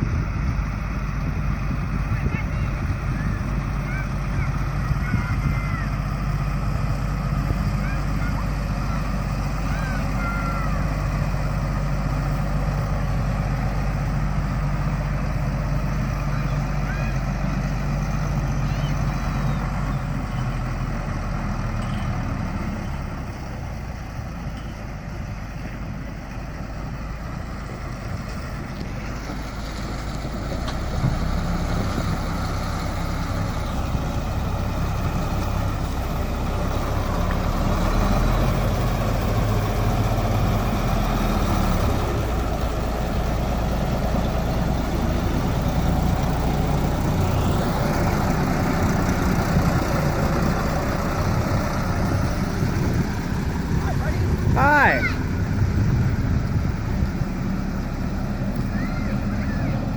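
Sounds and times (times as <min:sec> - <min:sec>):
road noise: 0:00.0 - 0:59.9
truck engine rumble: 0:00.0 - 0:59.9.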